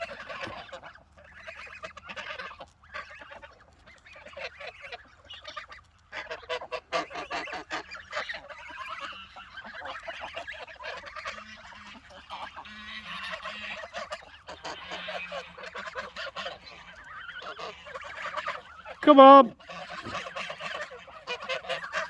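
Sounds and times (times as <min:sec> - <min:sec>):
geese honking and cackling: 0:00.0 - 0:22.0.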